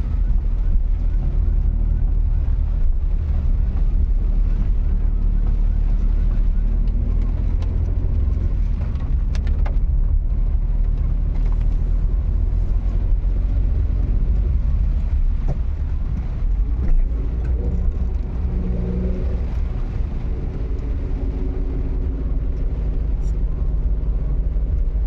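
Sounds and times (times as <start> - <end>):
engine low rumble: 0.0 - 25.0.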